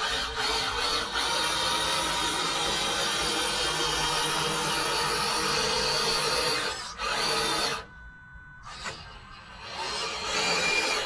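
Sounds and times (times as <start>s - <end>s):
electric motor whining: 0.0s - 8.0s, 8.6s - 11.0s.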